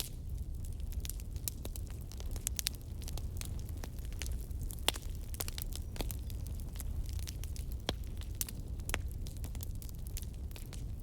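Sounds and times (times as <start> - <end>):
low rumble of flames: 0.0 - 11.0
wood fire crackling: 0.0 - 11.0.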